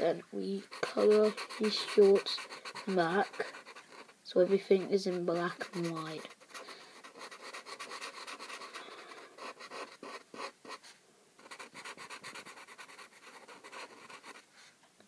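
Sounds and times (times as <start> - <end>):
marker scribbling on paper: 0.6 - 14.4.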